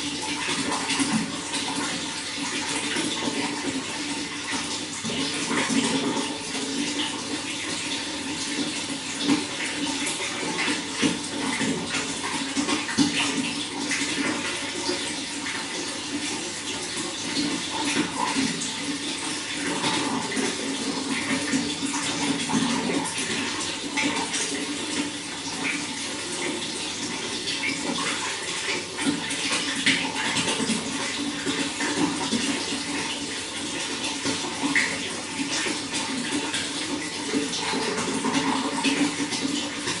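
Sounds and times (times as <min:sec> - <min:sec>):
water running: 0:00.0 - 0:40.0.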